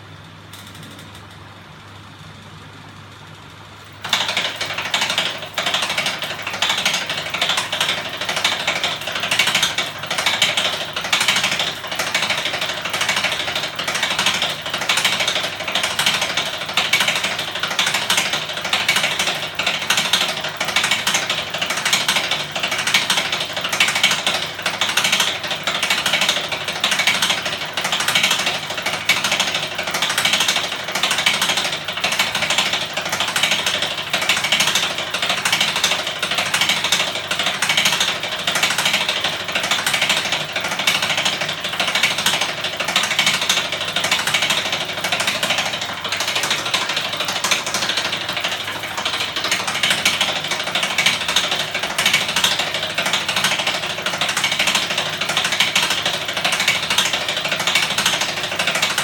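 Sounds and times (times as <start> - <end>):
mechanical clatter of rapid clicks: 0.5 - 1.4, 3.8 - 59.0.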